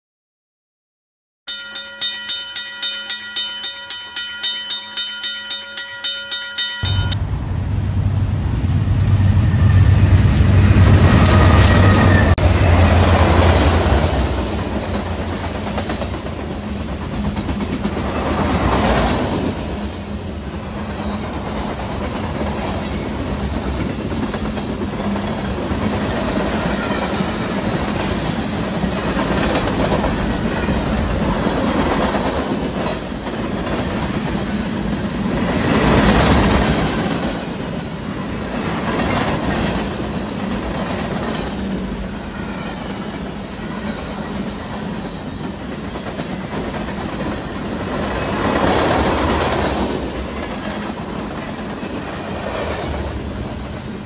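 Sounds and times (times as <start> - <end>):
freight train rumbling past: 1.5 - 54.0.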